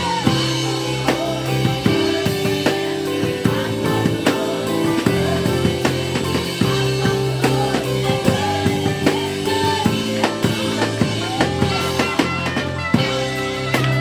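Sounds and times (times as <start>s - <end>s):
bass notes: 0.0s - 14.0s
drum kit beat: 0.0s - 14.0s
held chords: 0.0s - 14.0s.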